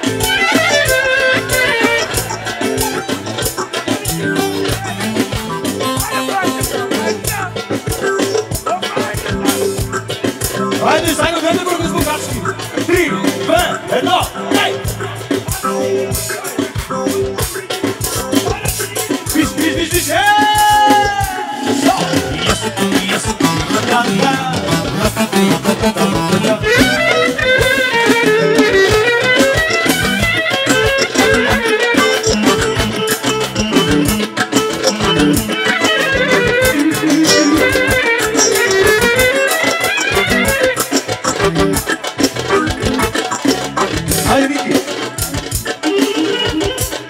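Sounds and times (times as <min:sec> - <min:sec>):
clarinets playing dance music: 0:00.0 - 0:47.0
quick percussion beat: 0:00.0 - 0:47.0.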